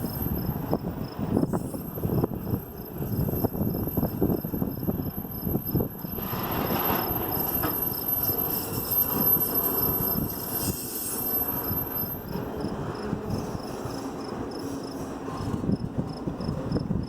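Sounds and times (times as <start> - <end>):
freight train cars rolling past: 0.0 - 17.0.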